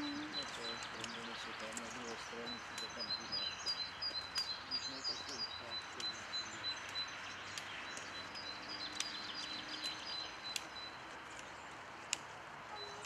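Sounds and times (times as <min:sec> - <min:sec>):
bird chirping: 0:00.0 - 0:13.0
sharp clicks: 0:00.7 - 0:12.4.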